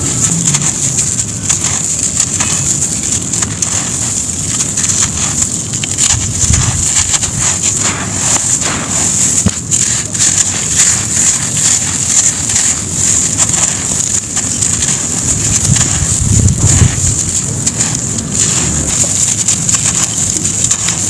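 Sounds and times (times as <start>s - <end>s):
sand-cement crumbling onto floor: 0.0s - 21.0s
steady high hiss: 0.0s - 21.0s.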